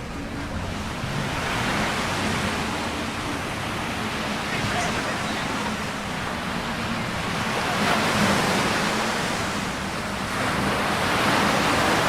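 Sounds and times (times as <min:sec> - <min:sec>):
ocean surf washing onto beach: 0:00.0 - 0:12.0.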